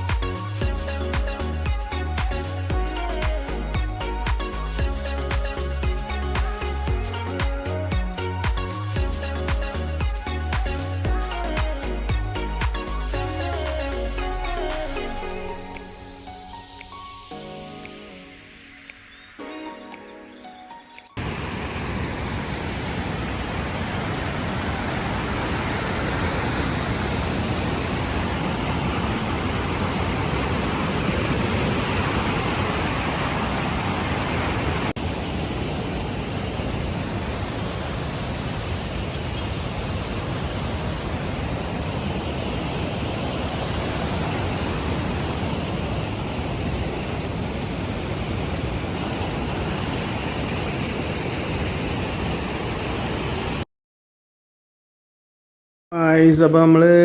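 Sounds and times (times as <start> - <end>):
waterfall rushing: 0.0 - 16.7, 21.2 - 53.6.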